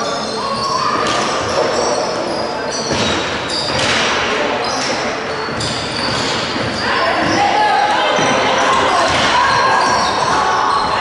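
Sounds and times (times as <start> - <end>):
echoing voices in sports hall: 0.0 - 11.0.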